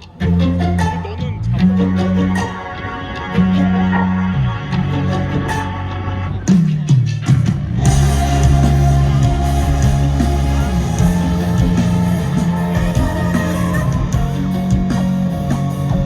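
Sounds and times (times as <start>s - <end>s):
rock band with guitar and bass: 0.0s - 16.0s.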